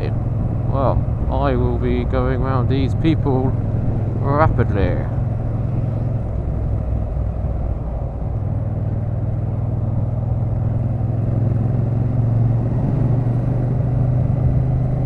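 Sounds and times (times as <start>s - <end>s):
motorcycle engine running: 0.0s - 15.0s
road rumble: 0.0s - 15.0s
wind: 0.0s - 15.0s.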